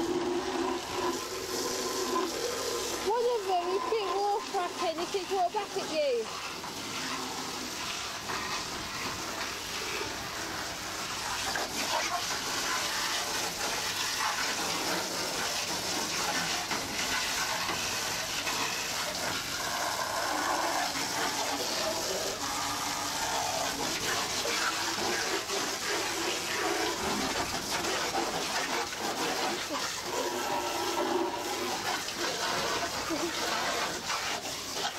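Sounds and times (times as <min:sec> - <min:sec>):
water jets spraying and splashing: 0:00.0 - 0:34.9.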